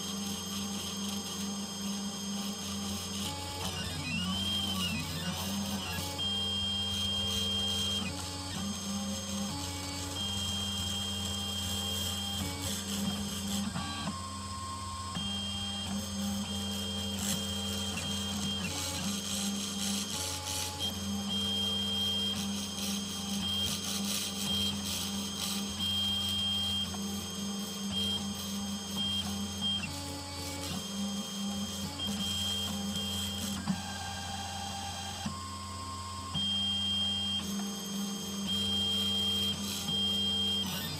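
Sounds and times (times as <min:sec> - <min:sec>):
spindle motor running: 0:00.0 - 0:40.9
stepper motors whining: 0:00.0 - 0:40.9.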